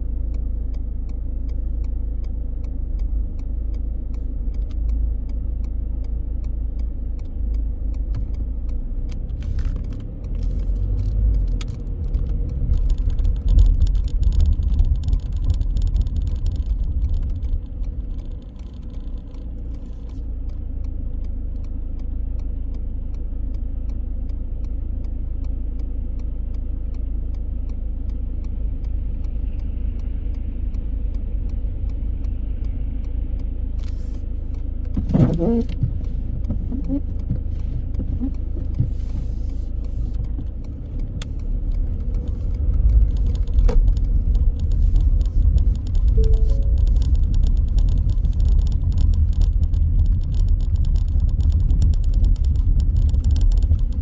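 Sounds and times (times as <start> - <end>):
car road and engine rumble: 0.0 - 54.0
faint regular ticking: 0.0 - 54.0.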